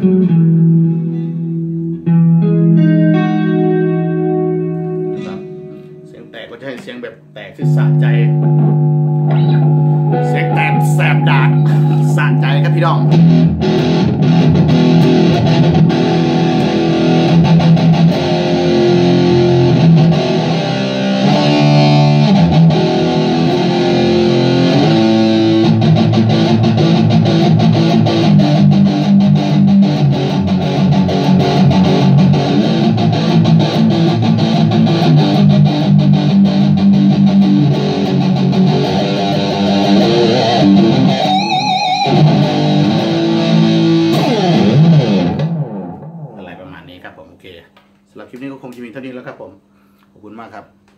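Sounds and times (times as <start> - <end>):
electric guitar playing: 0.0 - 47.0.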